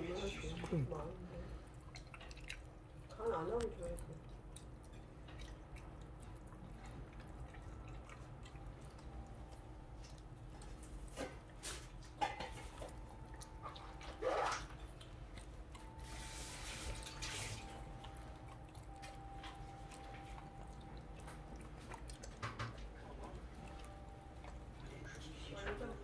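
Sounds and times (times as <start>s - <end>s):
dog licking and smacking: 0.0s - 26.0s.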